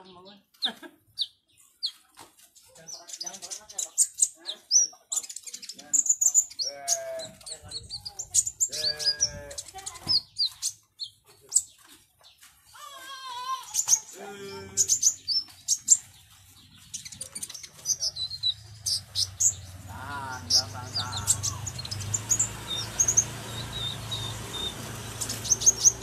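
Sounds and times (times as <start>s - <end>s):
sunbird chirping and twittering: 0.0s - 26.0s.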